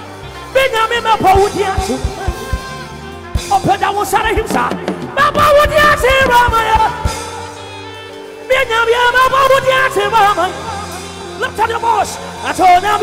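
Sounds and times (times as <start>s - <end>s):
electric bass guitar: 0.0s - 13.0s
gospel band playing: 0.0s - 13.0s
man singing into microphone: 0.4s - 7.5s, 8.4s - 13.0s.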